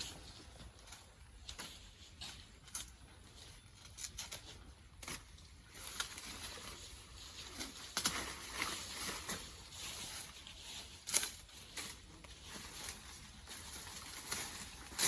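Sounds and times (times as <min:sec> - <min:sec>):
dry leaves crackling: 0:00.0 - 0:15.0.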